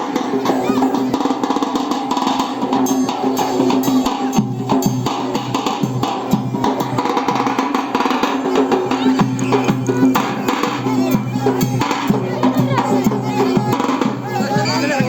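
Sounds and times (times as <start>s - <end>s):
drums and hand percussion music: 0.0s - 15.0s.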